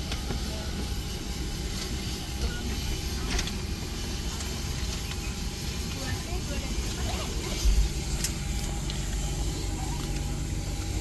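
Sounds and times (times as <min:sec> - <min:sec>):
airliner cabin rumble and hiss: 0:00.0 - 0:11.0.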